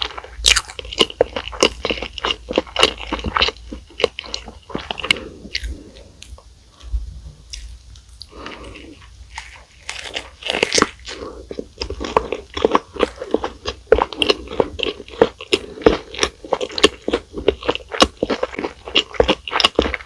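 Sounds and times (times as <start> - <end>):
crisp crunching bites: 0.0 - 5.7, 9.3 - 20.0
soft chewing: 0.0 - 20.0.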